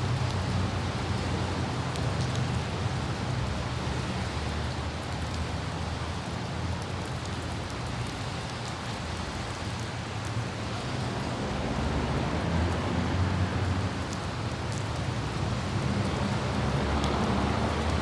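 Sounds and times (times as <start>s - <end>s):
car driving on wet road: 0.0s - 18.0s
droplet ticks: 0.0s - 18.0s
light rain falling: 0.0s - 18.0s.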